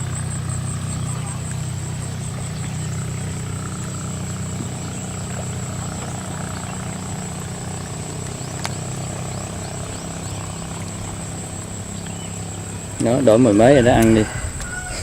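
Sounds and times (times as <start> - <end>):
insect trill: 0.0 - 15.0
motor humming: 0.0 - 15.0.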